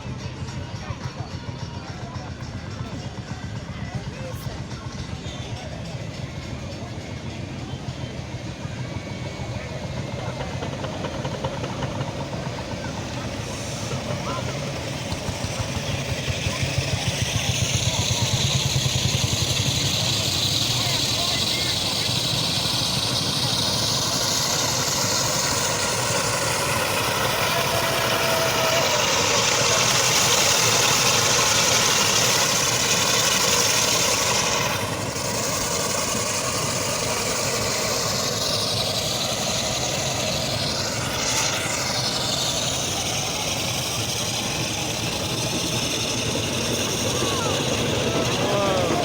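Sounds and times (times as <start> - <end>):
heavy vehicle engine running: 0.0 - 49.0.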